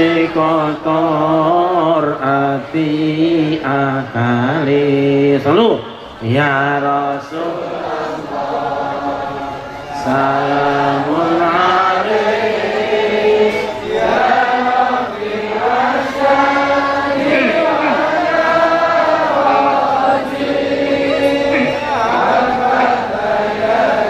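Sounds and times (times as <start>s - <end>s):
man chanting devotional song: 0.0s - 12.2s, 13.0s - 23.9s.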